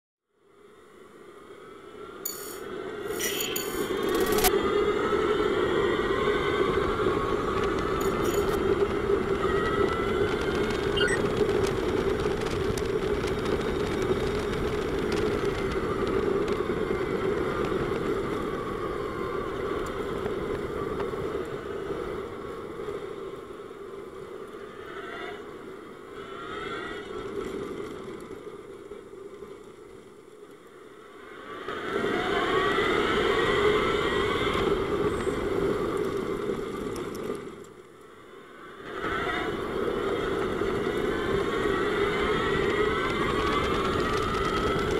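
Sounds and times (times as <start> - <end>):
electric drivetrain whine: 0.6 - 44.9.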